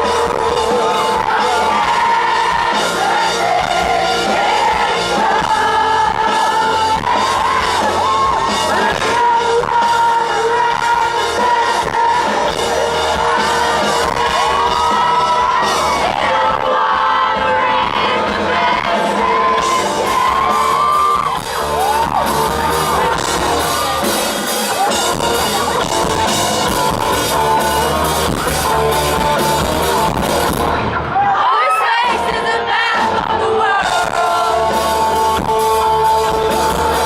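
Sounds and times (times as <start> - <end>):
steady drum beat: 0.0 - 30.9, 32.1 - 37.0
amplified singing: 0.0 - 37.0
live rock band playing: 0.0 - 37.0.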